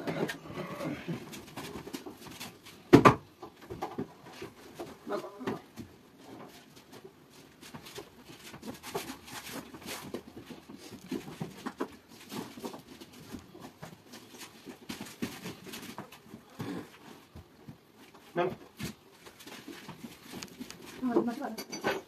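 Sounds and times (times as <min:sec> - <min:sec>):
wooden panels knocking and scuffing: 0:01.4 - 0:22.0.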